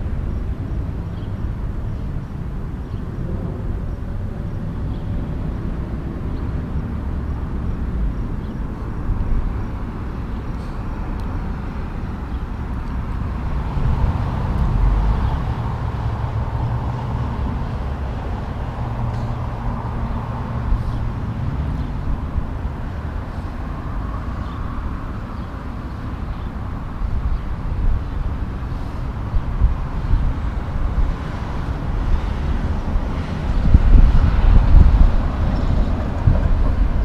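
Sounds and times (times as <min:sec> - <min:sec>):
diesel truck engine: 0:00.0 - 0:37.0
rumble of tyres and trailer: 0:00.0 - 0:37.0.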